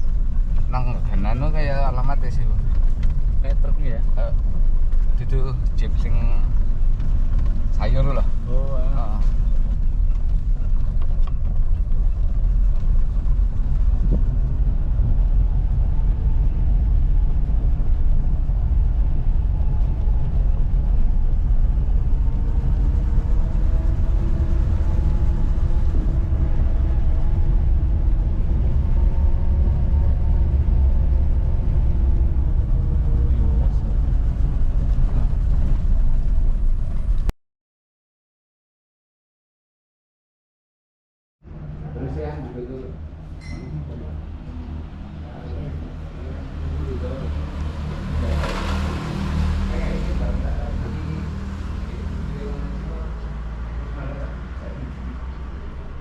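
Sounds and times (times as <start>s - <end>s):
vehicle engine and road noise: 0.0s - 37.3s, 41.4s - 56.0s.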